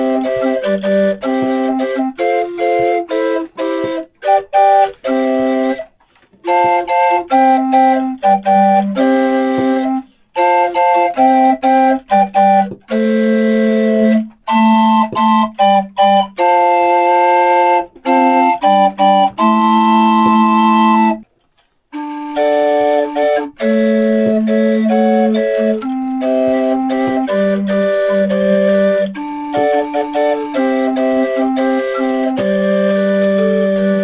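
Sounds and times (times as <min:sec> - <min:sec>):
small pipe organ playing chords: 0:00.0 - 0:21.2, 0:21.9 - 0:34.0.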